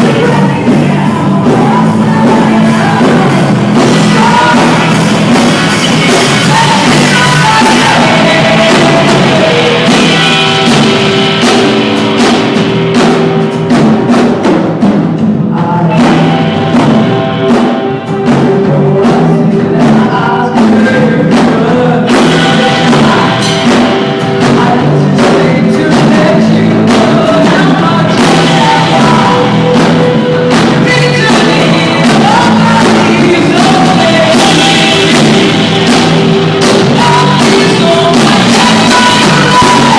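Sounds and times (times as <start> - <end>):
live pop-rock band playing: 0.0 - 39.9
person singing: 0.0 - 39.9.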